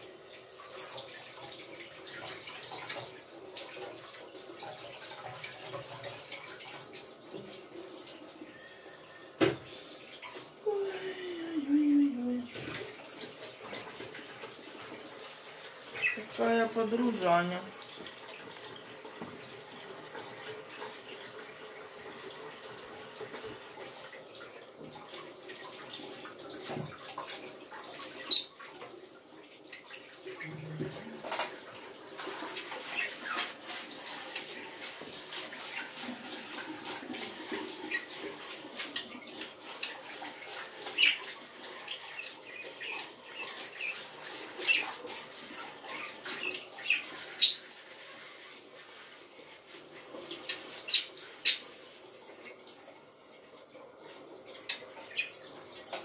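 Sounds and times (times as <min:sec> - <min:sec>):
tap water running into sink: 0:00.0 - 0:56.0.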